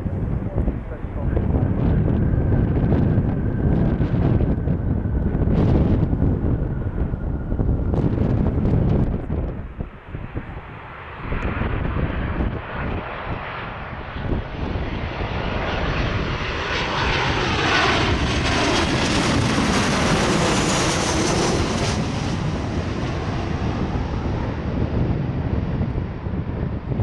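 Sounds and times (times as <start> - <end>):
jet plane passing overhead: 0.0 - 27.0.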